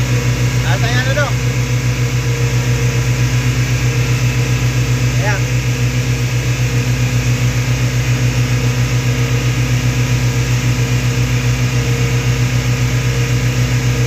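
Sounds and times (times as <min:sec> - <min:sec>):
jet boat engine droning: 0:00.0 - 0:14.0.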